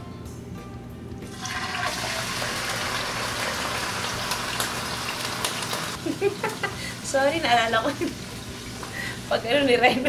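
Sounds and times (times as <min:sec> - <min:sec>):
meat sizzling in a pan: 0:01.3 - 0:09.6.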